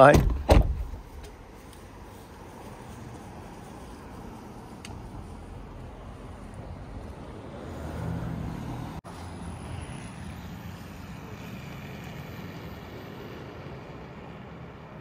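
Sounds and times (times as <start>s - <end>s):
vehicle road and wind rumble: 0.0s - 15.0s.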